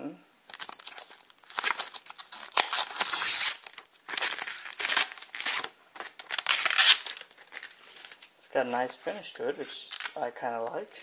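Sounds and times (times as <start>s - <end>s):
plastic wrap crinkling: 0.5s - 10.3s.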